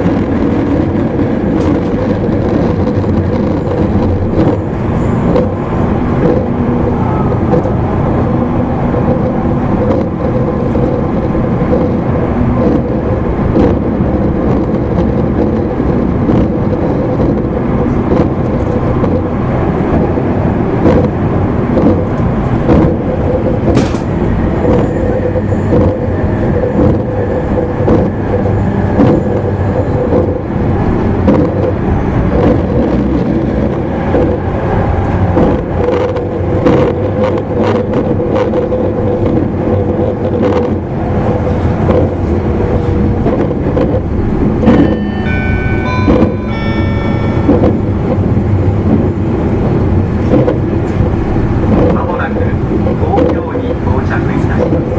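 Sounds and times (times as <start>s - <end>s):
train motor whine: 0.0s - 51.7s
wheel on rail rumble: 0.0s - 54.9s
wheels clicking over track: 0.0s - 54.9s.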